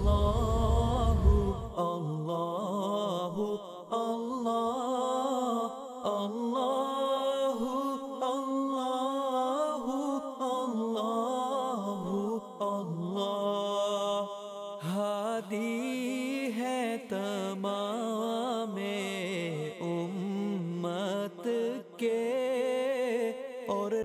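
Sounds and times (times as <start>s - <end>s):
solo voice chanting: 0.0s - 24.0s.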